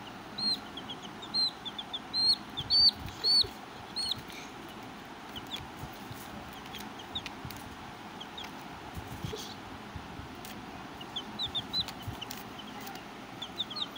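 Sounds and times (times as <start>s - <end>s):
chicks peeping: 0.0s - 13.9s
steady background hiss: 0.0s - 13.9s.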